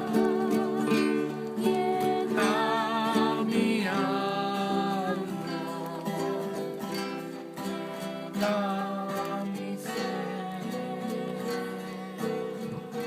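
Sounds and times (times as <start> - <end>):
person singing slow melody: 0.0 - 13.0
strummed acoustic guitar: 0.0 - 13.0.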